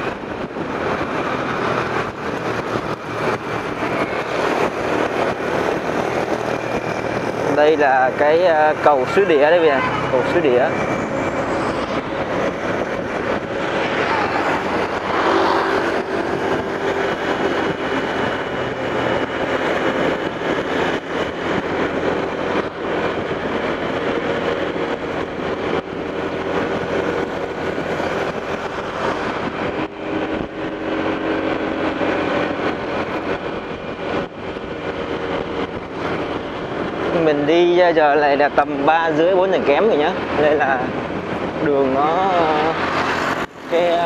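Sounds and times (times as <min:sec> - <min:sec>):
passing vehicle engine hum: 0:00.0 - 0:44.0
vehicle engines and tyres: 0:00.0 - 0:44.0.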